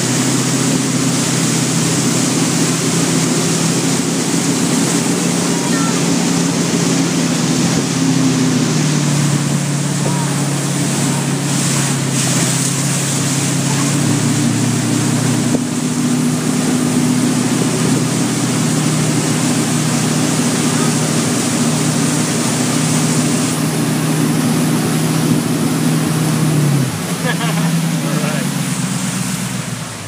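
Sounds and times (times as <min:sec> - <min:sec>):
boat engine running: 0:00.0 - 0:30.0
rushing spray and churned water: 0:00.0 - 0:30.0.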